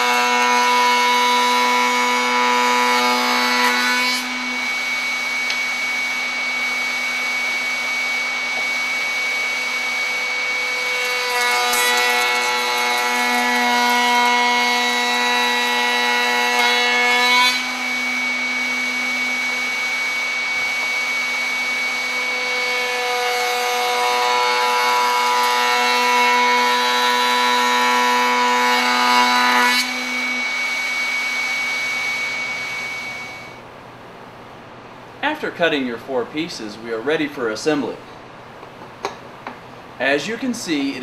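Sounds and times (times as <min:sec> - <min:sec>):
router cutting wood: 0:00.0 - 0:33.6
router high whine: 0:00.0 - 0:33.6.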